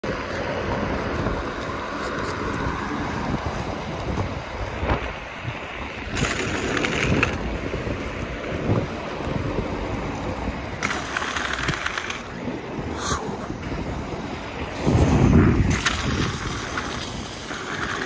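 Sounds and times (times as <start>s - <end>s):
skate wheels rolling on asphalt: 0.0s - 18.0s
wind buffeting microphone: 0.0s - 18.0s.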